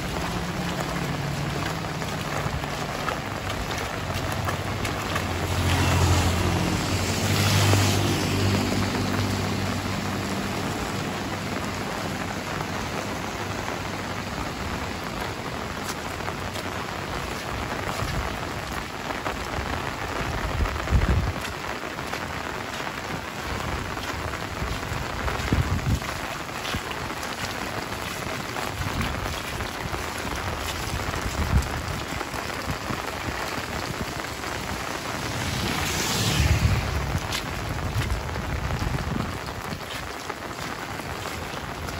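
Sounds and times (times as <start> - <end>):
heavy rain on asphalt road: 0.0 - 41.9.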